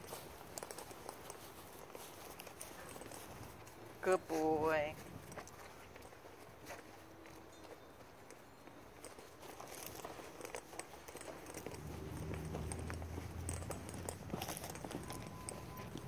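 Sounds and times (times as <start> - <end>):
footsteps and paws on leaves: 0.0 - 16.0.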